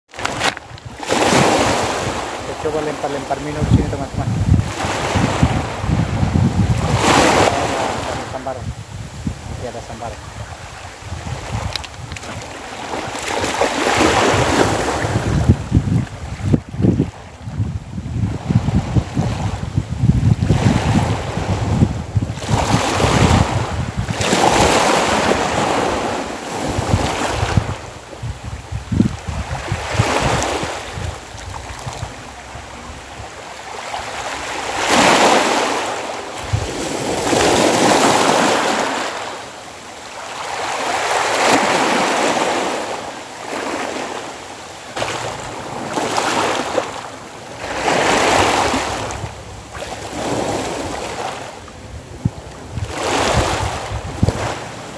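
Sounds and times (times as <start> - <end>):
wind rumble on microphone: 0.1 - 39.4, 40.4 - 54.9
small waves washing in shallows: 0.1 - 54.9.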